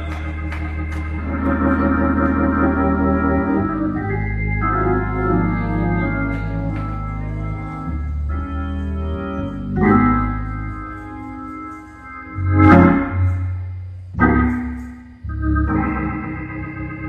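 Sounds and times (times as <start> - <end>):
gospel organ chords: 0.0 - 17.0.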